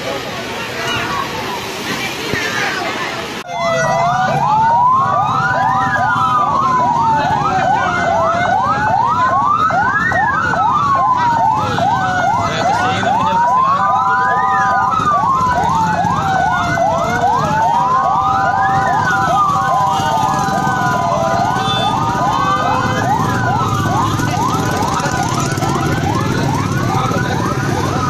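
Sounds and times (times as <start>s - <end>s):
siren steady tones: 3.4s - 28.0s
siren wailing: 3.5s - 28.0s
siren yelps: 3.5s - 28.0s.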